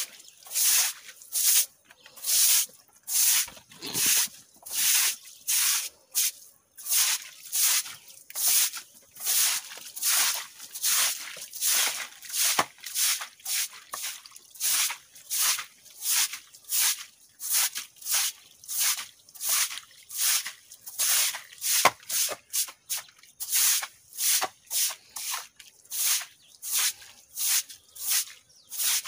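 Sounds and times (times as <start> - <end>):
broom sweeping dirt floor: 0.0 - 29.0.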